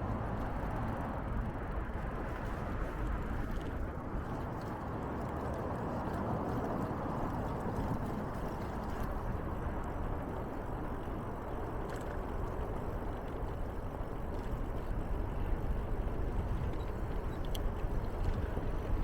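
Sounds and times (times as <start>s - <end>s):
bicycle tyres rolling: 0.0s - 19.0s.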